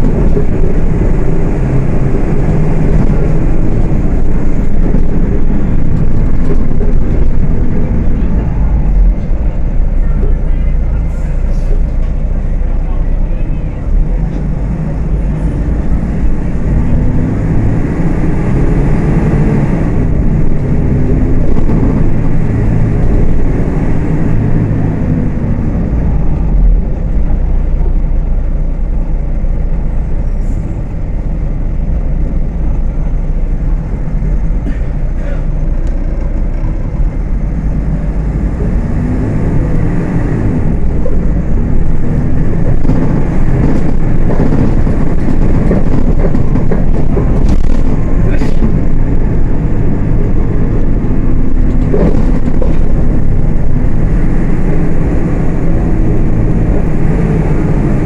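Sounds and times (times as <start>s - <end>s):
bus diesel engine revving: 0.0s - 58.0s.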